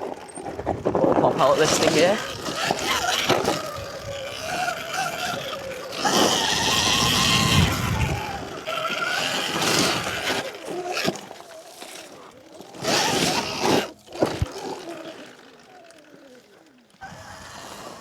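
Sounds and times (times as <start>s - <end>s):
electric dirt bike motor whining: 0.0s - 18.0s.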